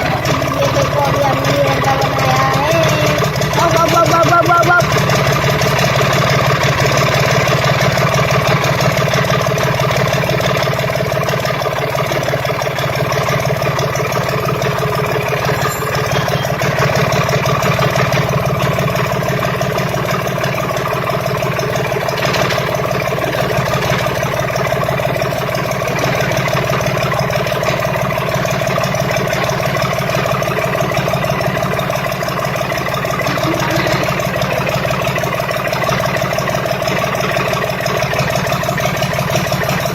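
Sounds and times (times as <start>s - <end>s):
generator engine idling: 0.0s - 39.9s.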